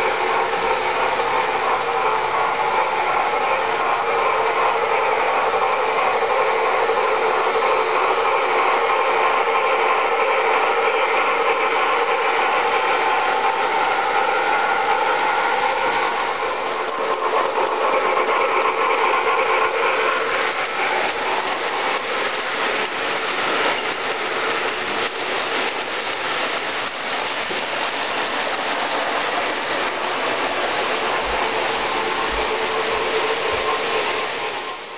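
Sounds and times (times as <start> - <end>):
model train running on rails: 0.0 - 34.9
steady whine: 0.0 - 34.9.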